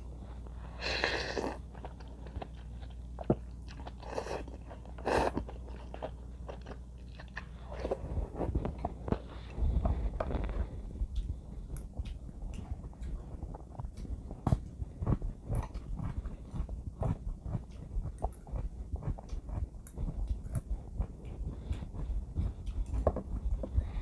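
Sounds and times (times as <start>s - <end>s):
wet chewing: 0.8s - 24.0s.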